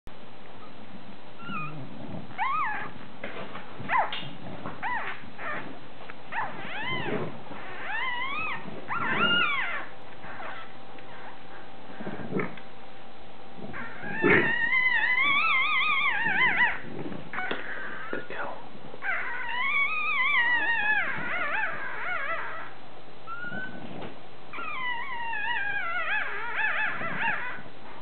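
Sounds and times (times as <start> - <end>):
puppies squeaking and whimpering: 1.4 - 3.0, 3.8 - 12.6, 13.7 - 28.0.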